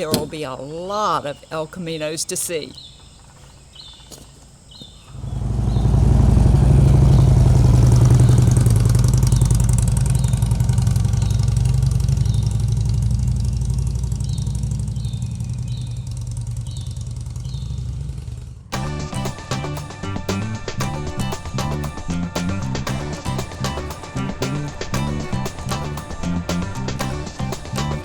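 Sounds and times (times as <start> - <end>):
motorcycle engine running: 5.1 - 28.0.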